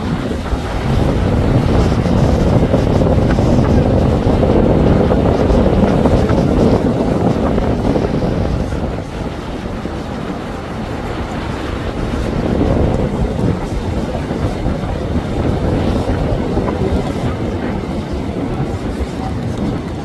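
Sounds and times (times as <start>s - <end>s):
boat engines running: 0.0s - 20.0s
churning wake water: 0.0s - 20.0s
wind buffeting microphone: 0.0s - 20.0s.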